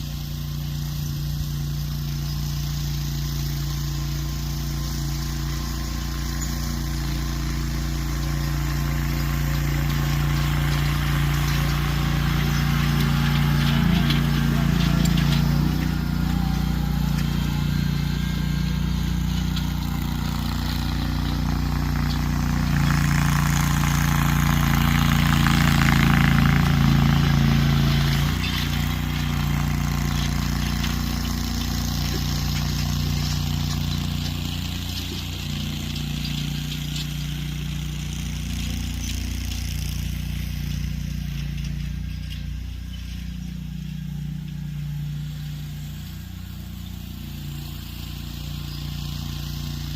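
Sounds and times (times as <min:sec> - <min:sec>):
tractor engine running under load: 0:00.0 - 0:49.9.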